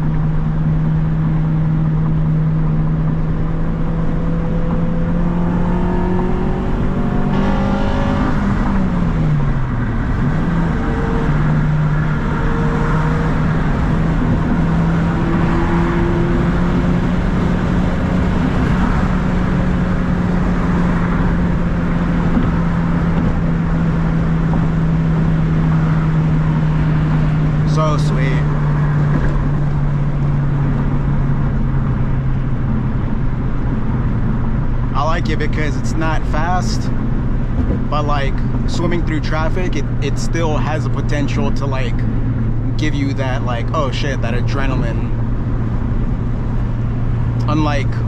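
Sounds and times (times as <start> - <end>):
car engine running: 0.0 - 48.0
road noise: 0.0 - 48.0.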